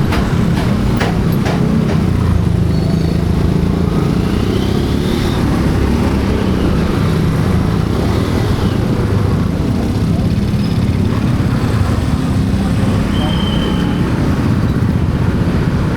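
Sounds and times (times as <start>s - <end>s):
motorcycle engine rumble: 0.0s - 15.9s
road noise: 0.0s - 15.9s.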